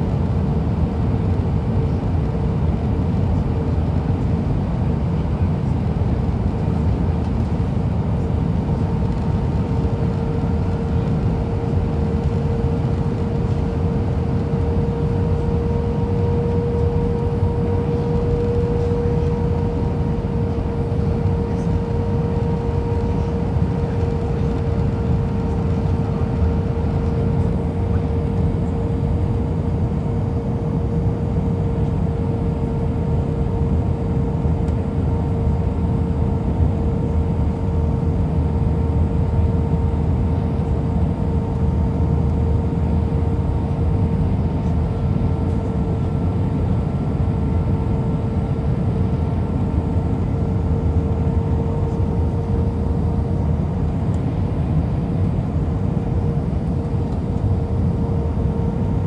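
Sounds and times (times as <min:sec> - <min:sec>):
constant cabin hum: 0:00.0 - 0:59.0
jet engines and airflow rush: 0:00.0 - 0:59.0.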